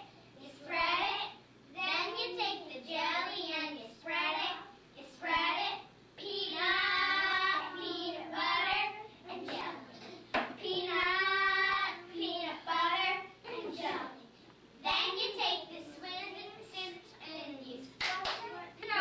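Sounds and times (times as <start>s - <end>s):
young children singing: 0.0s - 19.0s.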